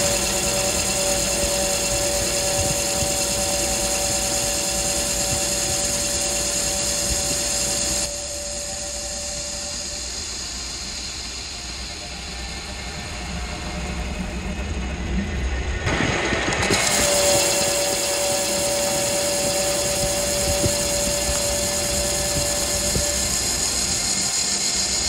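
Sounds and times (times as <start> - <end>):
lathe cutting hiss and whine: 0.0 - 25.0
lathe spinning: 0.0 - 25.0.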